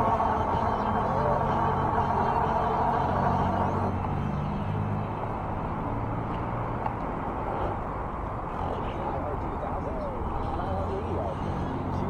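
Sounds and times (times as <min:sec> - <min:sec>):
e-bike riding noise: 0:00.0 - 0:12.0
road traffic: 0:00.0 - 0:12.0.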